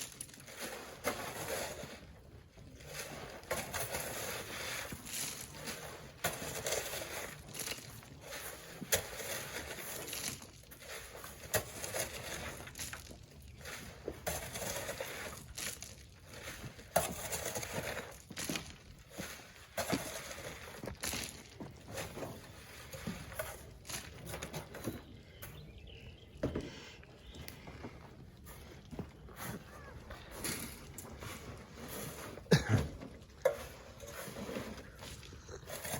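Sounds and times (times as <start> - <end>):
shovel scraping sand: 0.0 - 25.6, 28.5 - 35.9.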